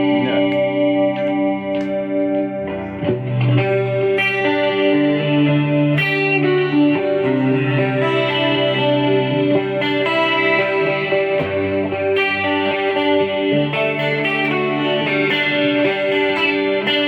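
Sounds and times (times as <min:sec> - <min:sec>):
clean electric guitar chords: 0:00.0 - 0:17.0.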